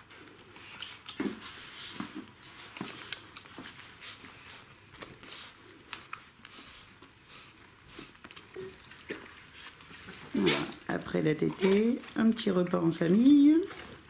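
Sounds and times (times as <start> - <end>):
puppies wet sucking clicks: 0.0 - 14.0.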